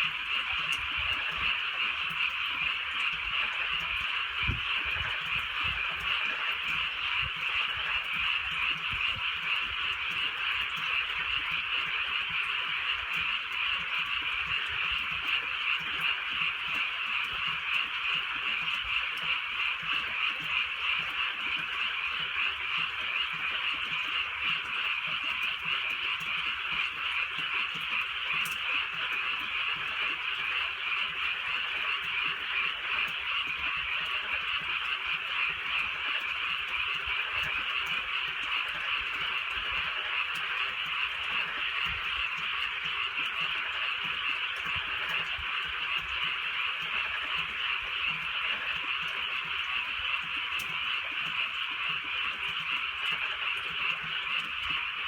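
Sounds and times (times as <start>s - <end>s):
chorus of frogs croaking: 0.0s - 55.0s.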